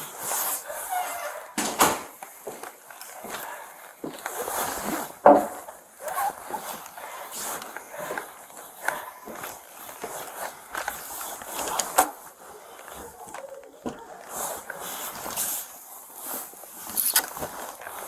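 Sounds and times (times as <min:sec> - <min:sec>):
footsteps: 0:00.0 - 0:18.0.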